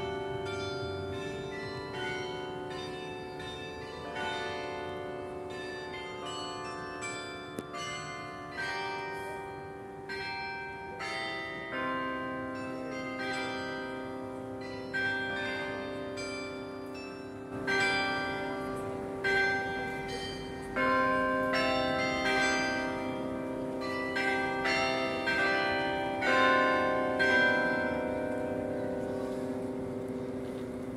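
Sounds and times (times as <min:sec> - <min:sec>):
carillon bells playing a tune: 0:00.0 - 0:30.4.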